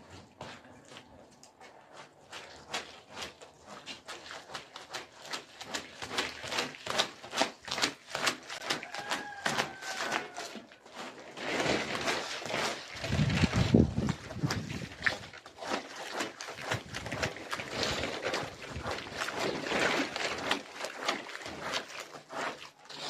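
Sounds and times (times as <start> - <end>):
squeegee scraping wet mud: 0.0 - 23.0.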